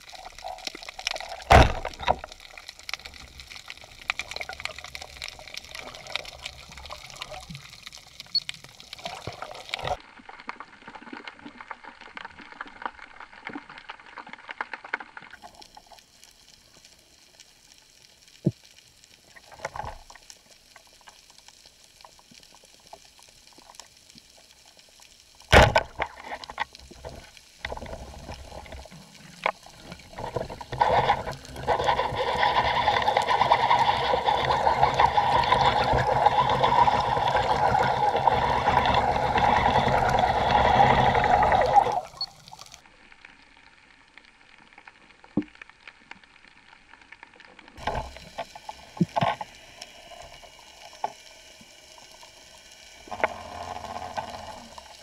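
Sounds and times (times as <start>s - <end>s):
faint underwater crackle: 0.0s - 55.0s
rushing water and bubbles: 0.0s - 55.0s.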